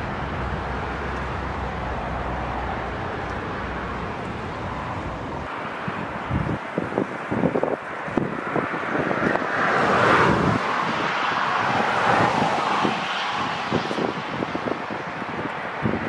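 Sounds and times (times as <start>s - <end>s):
jet engine on runway: 0.0s - 16.0s
wind buffeting microphone: 0.0s - 16.0s.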